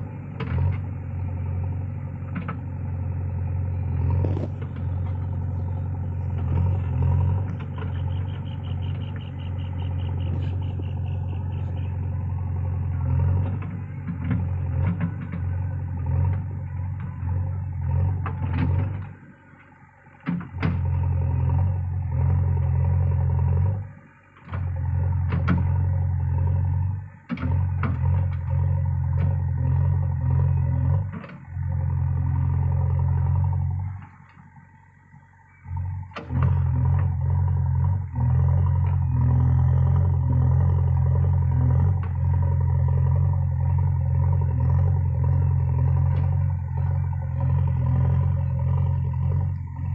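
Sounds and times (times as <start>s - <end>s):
diesel engine running under load: 0.0s - 49.9s.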